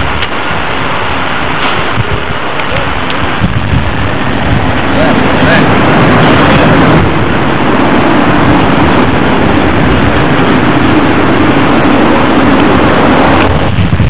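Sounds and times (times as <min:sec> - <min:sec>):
diesel bus engine running: 0:00.0 - 0:13.7.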